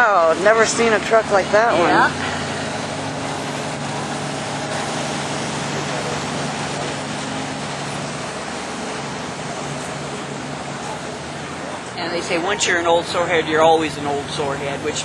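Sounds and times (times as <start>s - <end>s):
street noise: 0.0s - 15.0s
truck engine running: 0.0s - 15.0s.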